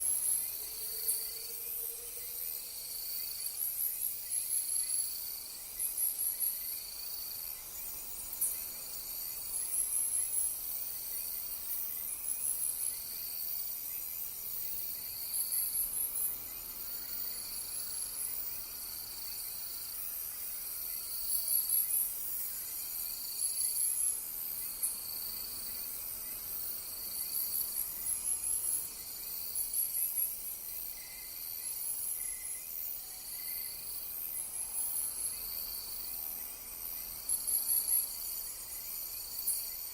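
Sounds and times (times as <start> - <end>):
insects chirping in trills: 0.0 - 39.9.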